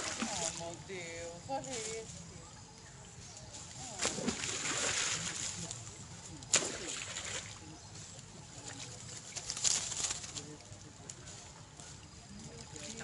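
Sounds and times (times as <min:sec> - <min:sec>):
monkeys splashing in water: 0:00.0 - 0:00.8, 0:03.1 - 0:13.0.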